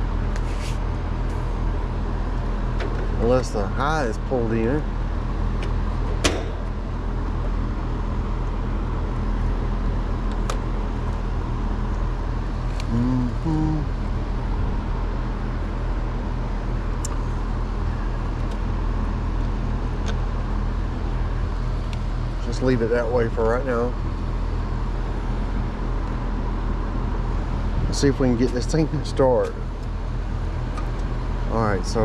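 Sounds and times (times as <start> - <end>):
air conditioning unit humming: 0.0 - 32.0.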